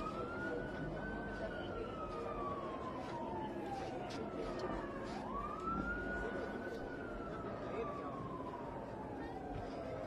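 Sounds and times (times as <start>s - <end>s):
emergency siren wailing: 0.0s - 10.0s
street noise: 0.0s - 10.0s.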